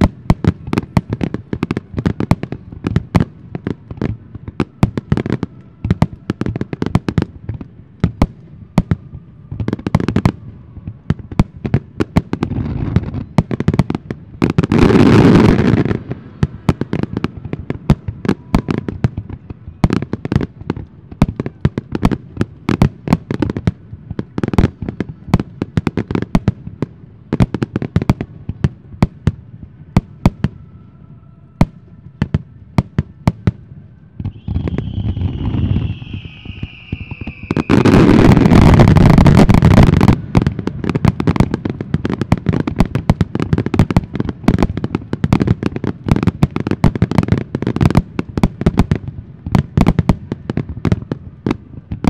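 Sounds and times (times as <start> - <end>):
fireworks booming: 0.0 - 30.6, 31.6 - 52.0
continuous fireworks rush: 0.0 - 52.0.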